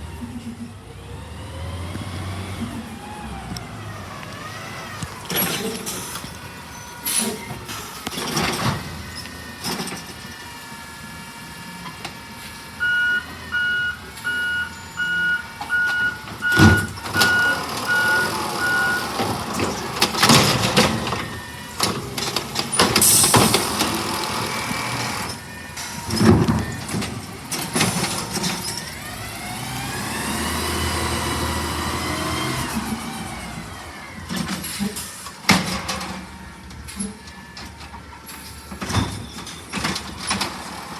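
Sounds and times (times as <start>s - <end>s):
truck reversing alarm beeping: 2.6s - 40.9s.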